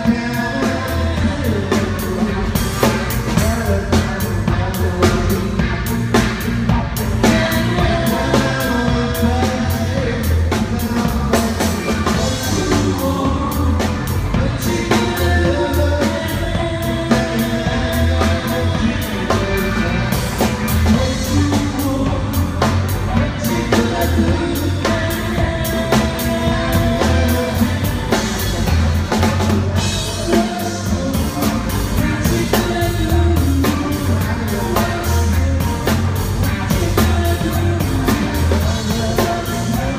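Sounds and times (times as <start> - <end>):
drum kit beat: 0.0 - 39.9
live rock band playing: 0.0 - 39.9.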